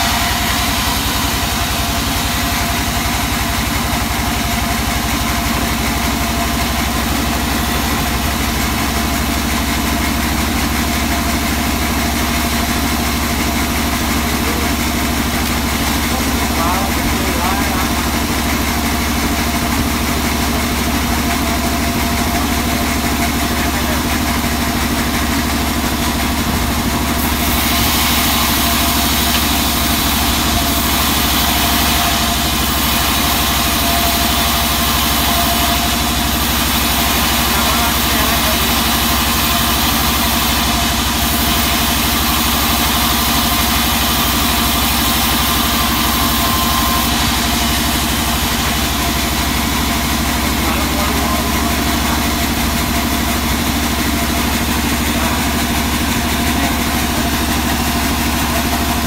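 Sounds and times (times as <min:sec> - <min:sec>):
band saw motor hum: 0:00.0 - 0:59.0
saw blade rasping through wood: 0:10.9 - 0:59.0.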